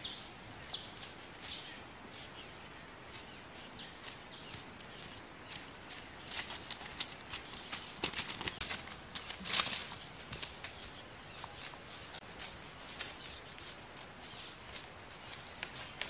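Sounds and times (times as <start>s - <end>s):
high insect drone: 0.0s - 16.0s
footsteps crunching dry leaves: 0.8s - 16.0s.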